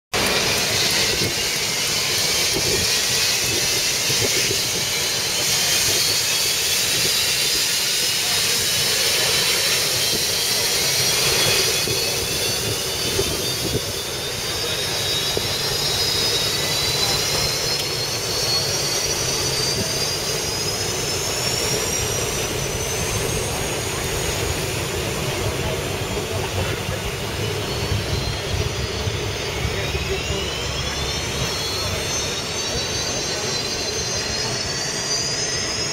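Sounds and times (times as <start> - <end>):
turbine engine whine: 0.1 - 35.9.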